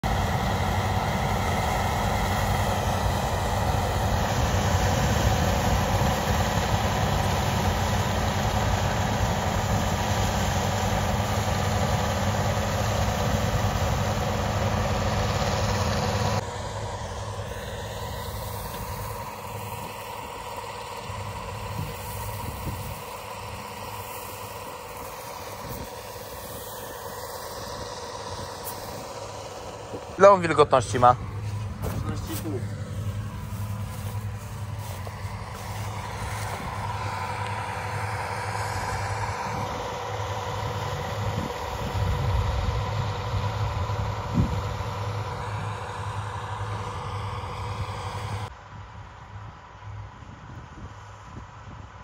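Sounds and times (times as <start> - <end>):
combine harvester running: 0.0 - 52.0
engine hum: 0.0 - 52.0.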